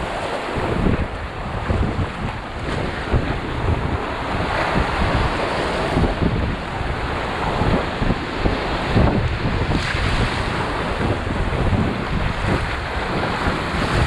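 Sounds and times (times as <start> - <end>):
river water rushing and churning: 0.0 - 14.0
wind buffeting microphone: 0.0 - 14.0.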